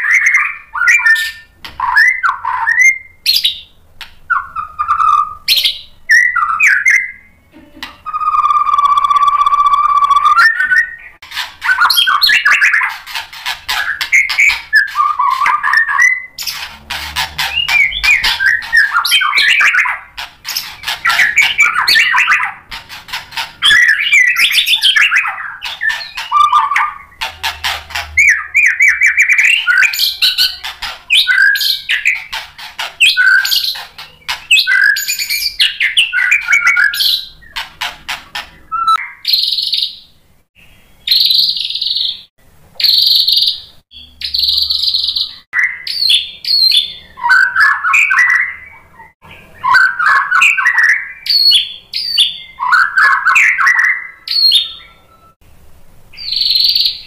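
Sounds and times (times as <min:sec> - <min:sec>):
bird singing whistled phrases: 0:00.0 - 0:03.7, 0:04.3 - 0:07.3, 0:08.0 - 0:12.9, 0:13.8 - 0:16.6, 0:17.4 - 0:22.6, 0:23.6 - 0:27.2, 0:28.2 - 0:32.2, 0:33.0 - 0:33.8, 0:34.5 - 0:37.5, 0:38.7 - 0:55.4, 0:56.2 - 0:57.0
harsh noisy bird notes: 0:00.0 - 0:55.4, 0:56.1 - 0:57.0.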